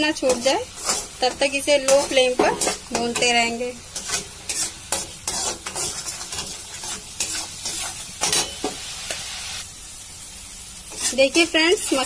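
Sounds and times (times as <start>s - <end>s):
paste sizzling in hot oil: 0.0s - 12.0s
metal spoon scraping pan: 0.1s - 9.2s, 10.9s - 12.0s.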